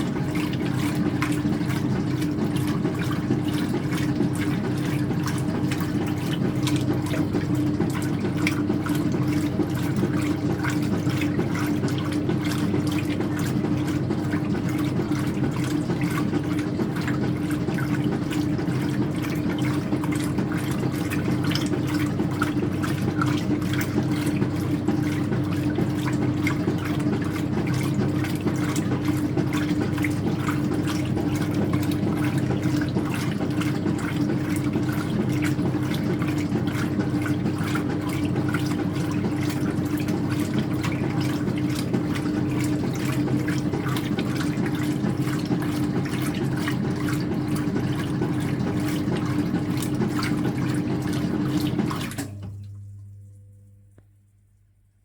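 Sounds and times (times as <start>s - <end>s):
water noise: 0.0s - 53.6s
washing machine running: 0.0s - 54.1s.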